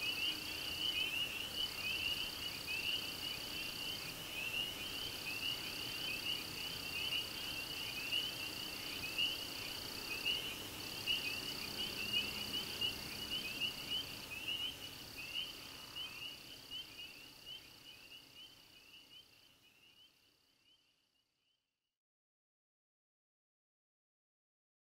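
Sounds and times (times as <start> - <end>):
frogs and insects chirping: 0.0 - 21.6.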